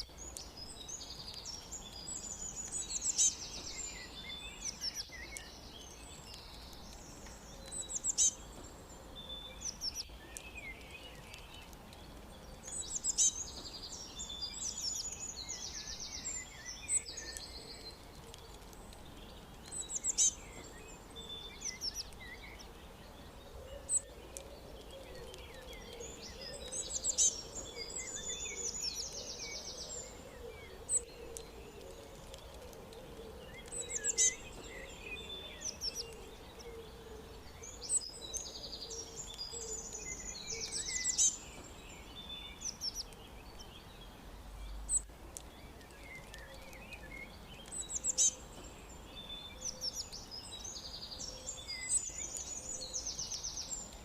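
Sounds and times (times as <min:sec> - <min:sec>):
soft bird chirps: 0:00.0 - 0:54.0
songbirds singing: 0:00.0 - 0:54.0.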